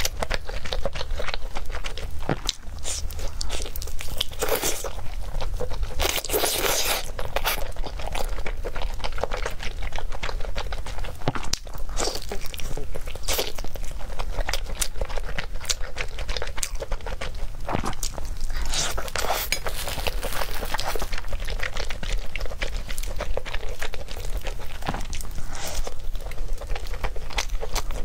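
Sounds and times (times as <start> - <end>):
close chewing and crunching: 0.0 - 28.0.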